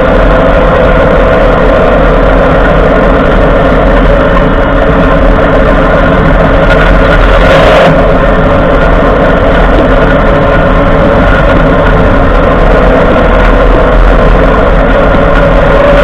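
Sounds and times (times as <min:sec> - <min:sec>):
road and drivetrain noise: 0:00.0 - 0:16.0
steady drone: 0:00.0 - 0:16.0.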